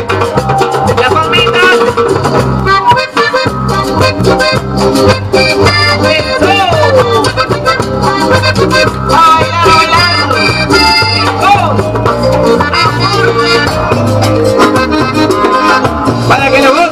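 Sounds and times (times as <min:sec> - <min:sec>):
gliding melodic lead line: 0:00.0 - 0:16.9
live band playing: 0:00.0 - 0:16.9
percussion beat: 0:00.0 - 0:16.9.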